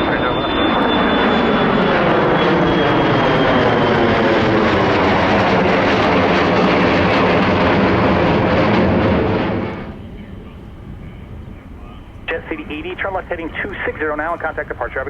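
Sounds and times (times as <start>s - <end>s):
jet airliner engines at takeoff: 0.0s - 15.0s.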